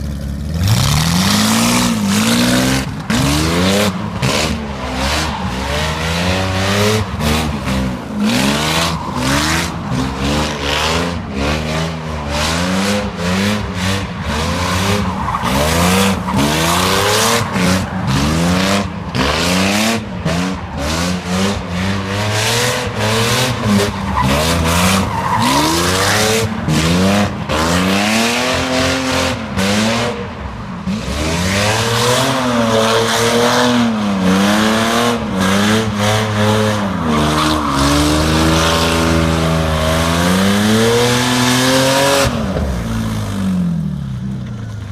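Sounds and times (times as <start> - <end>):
car engine revving: 0.0 - 44.1.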